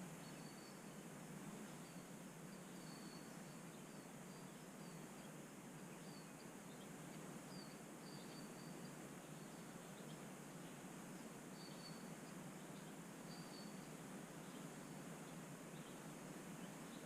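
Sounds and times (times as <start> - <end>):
background hiss: 0.0 - 17.0
faint high bird chirps: 0.1 - 1.0, 1.7 - 6.9, 7.5 - 10.8, 11.5 - 16.0.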